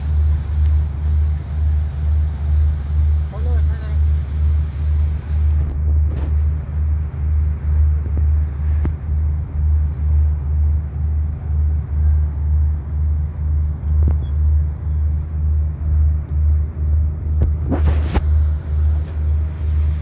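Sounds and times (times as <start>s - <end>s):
pulsing engine-like rumble: 0.0s - 20.0s.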